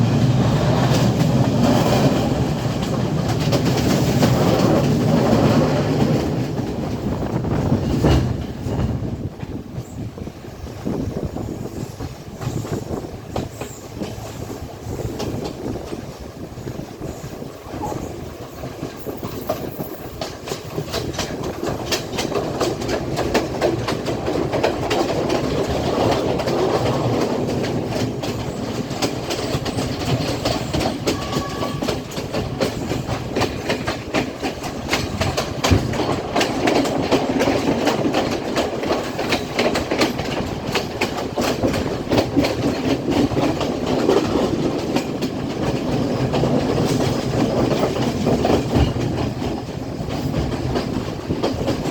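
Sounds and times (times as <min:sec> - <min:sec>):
train running rumble: 0:00.0 - 0:51.9
wheels clicking over rail joints: 0:00.0 - 0:51.9.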